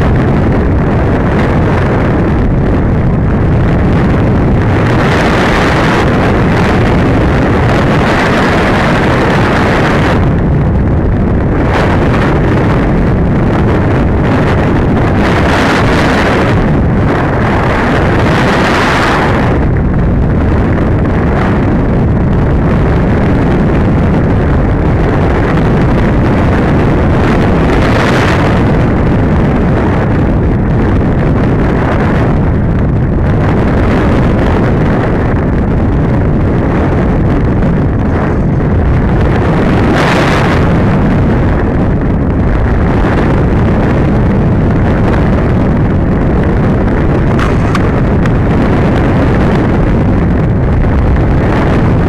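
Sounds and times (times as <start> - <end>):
wind rushing over microphone: 0.0 - 52.0.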